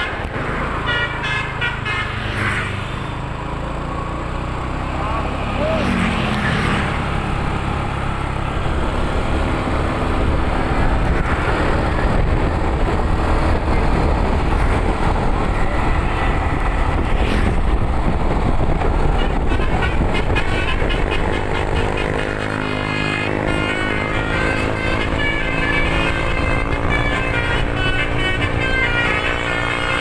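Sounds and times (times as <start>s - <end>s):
bus engine: 0.0s - 30.0s
road noise: 0.0s - 30.0s.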